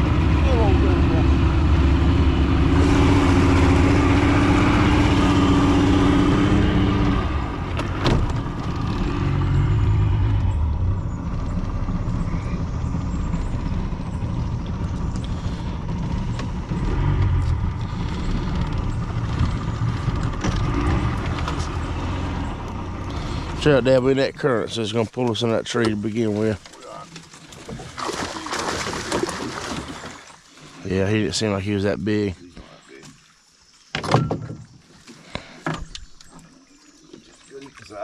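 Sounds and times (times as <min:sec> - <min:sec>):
outboard motor running: 0:00.0 - 0:33.6.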